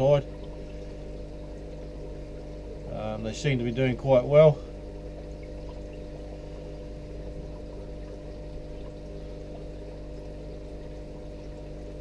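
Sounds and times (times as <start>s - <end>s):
filter motor hum: 0.0s - 12.0s
water pouring and trickling: 0.0s - 12.0s.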